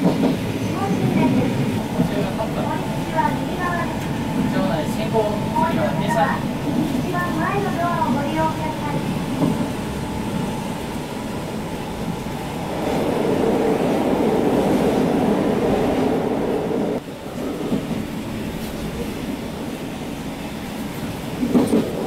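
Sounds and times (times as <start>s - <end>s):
railcar wheel and rail noise: 0.0s - 22.0s.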